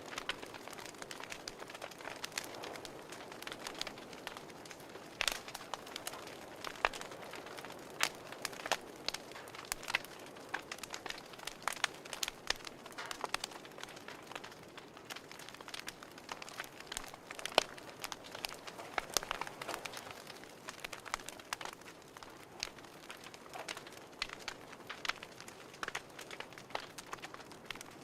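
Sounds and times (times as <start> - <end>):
fireplace crackling: 0.0 - 28.0.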